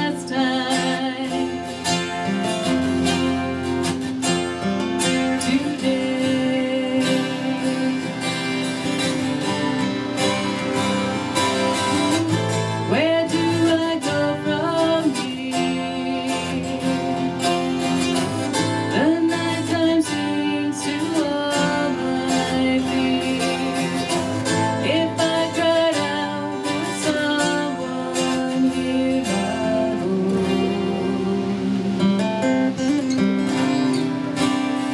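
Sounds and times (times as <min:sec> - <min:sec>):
person singing: 0:00.0 - 0:03.6, 0:04.4 - 0:34.9
acoustic guitar strummed and picked: 0:00.0 - 0:34.9.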